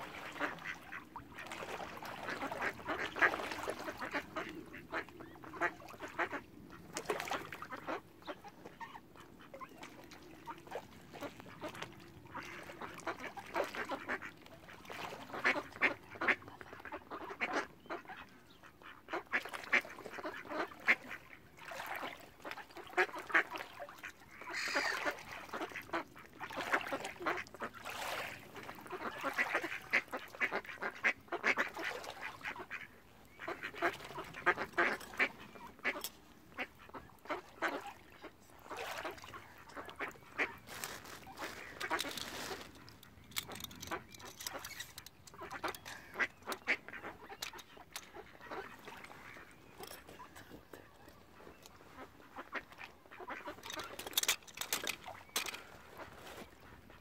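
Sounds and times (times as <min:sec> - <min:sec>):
ducks quacking in a crowd: 0:00.0 - 0:57.0.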